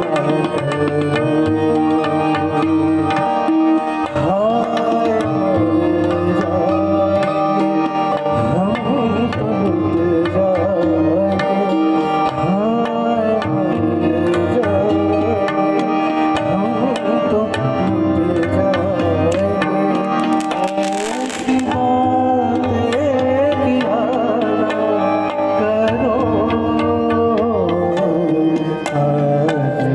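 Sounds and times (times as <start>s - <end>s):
harmonium tones: 0.0s - 29.9s
man singing: 0.0s - 29.9s
tabla playing rhythm: 0.0s - 29.9s.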